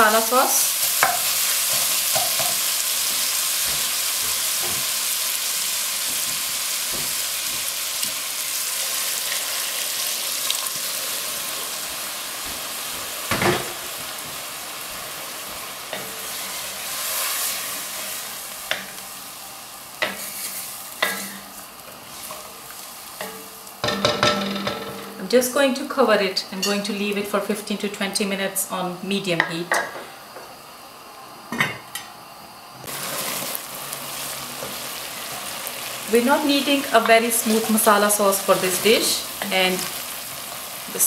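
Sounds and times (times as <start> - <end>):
food sizzling in a pot: 0.0 - 27.6, 32.8 - 41.0.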